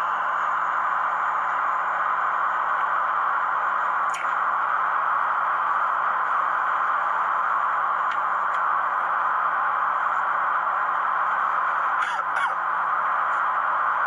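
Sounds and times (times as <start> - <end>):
static hiss: 0.0 - 14.0.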